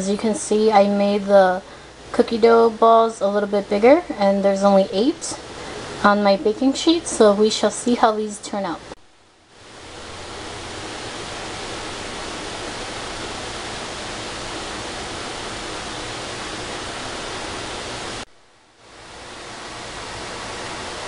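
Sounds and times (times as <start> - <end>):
recording hiss: 0.0 - 21.0.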